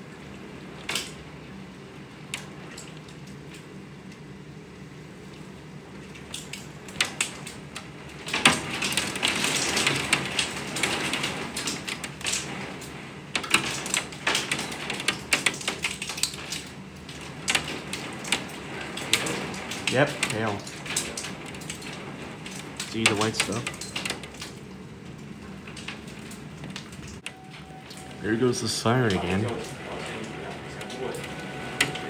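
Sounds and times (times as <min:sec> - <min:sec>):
heavy rain on window: 0:00.0 - 0:32.0
hailstones ticking on glass: 0:00.6 - 0:01.3, 0:02.2 - 0:04.2, 0:05.3 - 0:32.0.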